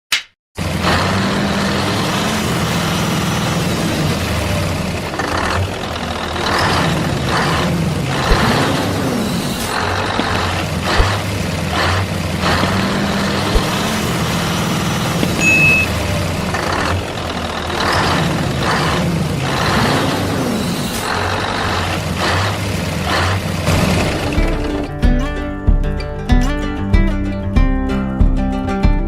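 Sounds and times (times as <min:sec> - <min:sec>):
truck engine running: 0:00.6 - 0:25.2.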